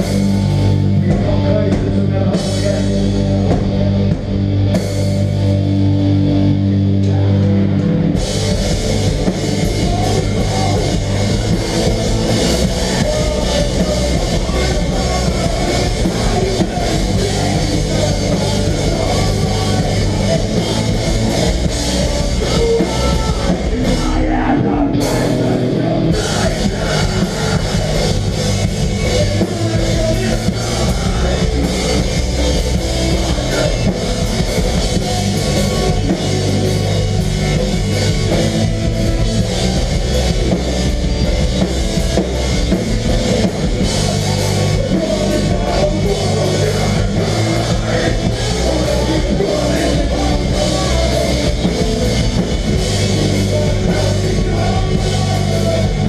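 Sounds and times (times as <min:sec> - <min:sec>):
bass guitar: 0:00.0 - 0:56.0
distorted guitars: 0:00.0 - 0:56.0
drum kit: 0:00.0 - 0:56.0.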